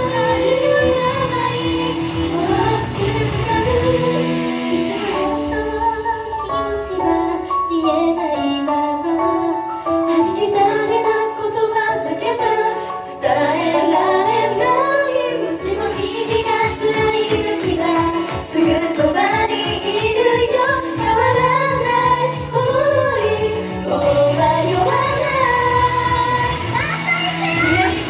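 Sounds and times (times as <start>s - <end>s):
female voices singing: 0.0s - 28.0s
upbeat pop backing track: 0.0s - 28.0s.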